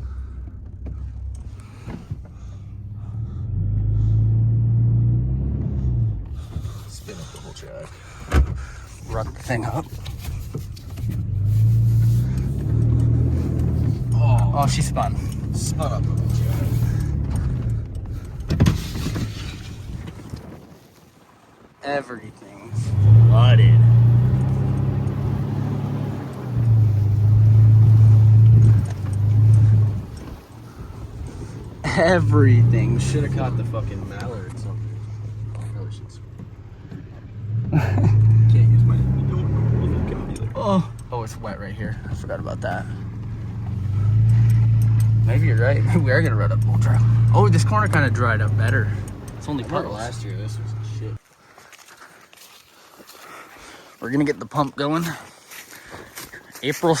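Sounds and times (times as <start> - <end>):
vehicle engine rumbling: 0.0 - 20.7, 21.9 - 51.3.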